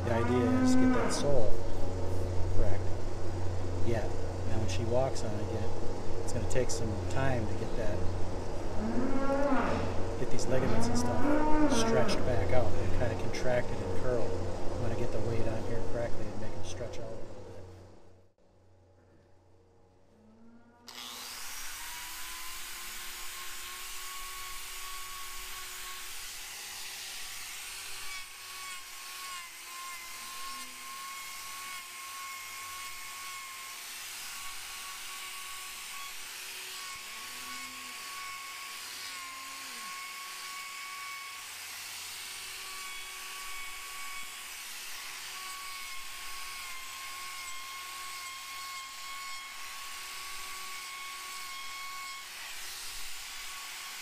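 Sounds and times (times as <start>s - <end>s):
angle grinder whining: 0.0s - 15.8s, 20.8s - 54.0s.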